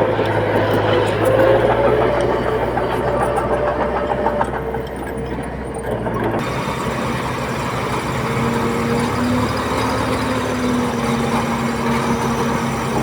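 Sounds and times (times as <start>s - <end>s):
heavy machinery engines running: 0.0s - 13.0s.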